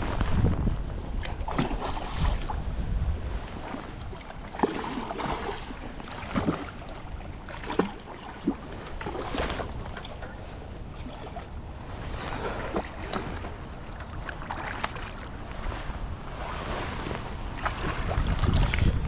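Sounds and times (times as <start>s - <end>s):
river water running: 0.0s - 19.0s
wind on microphone: 0.0s - 19.0s.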